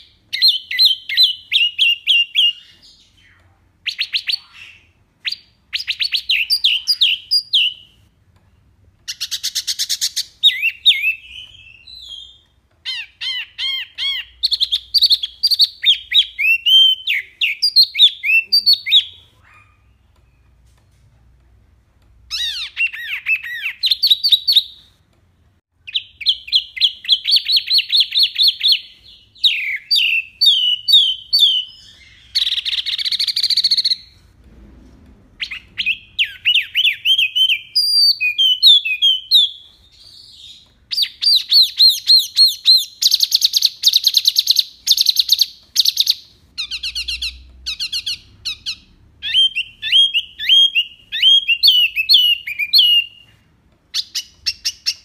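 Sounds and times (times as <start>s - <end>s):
songbird singing whistled trills: 0.0s - 8.0s, 9.1s - 20.5s, 25.8s - 34.2s, 35.4s - 55.0s.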